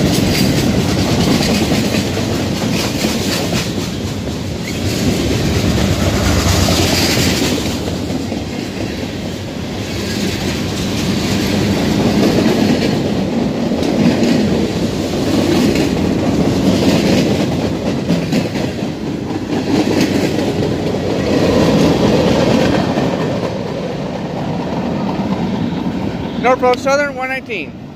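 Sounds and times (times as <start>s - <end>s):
wheels clacking over rail joints: 0.0s - 25.4s
steel wheels rumbling on rails: 0.0s - 27.1s.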